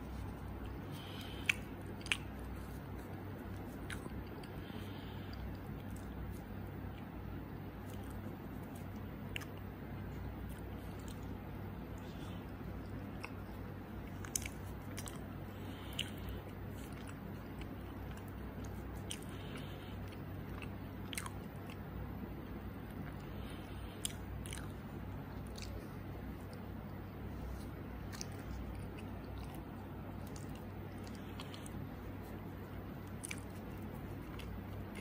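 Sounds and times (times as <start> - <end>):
person biting and chewing: 0.0 - 6.5, 7.8 - 21.8, 24.0 - 35.0
steady low hum: 0.0 - 35.0.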